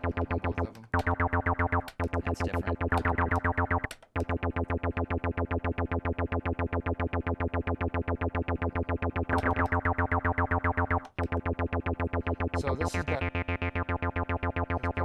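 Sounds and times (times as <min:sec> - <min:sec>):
bass synthesizer repeated low notes: 0:00.0 - 0:15.0.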